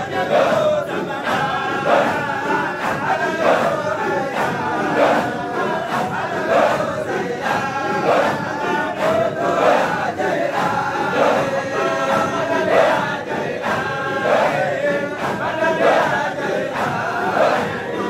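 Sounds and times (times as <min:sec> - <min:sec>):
crowd of men chanting: 0:00.0 - 0:18.0.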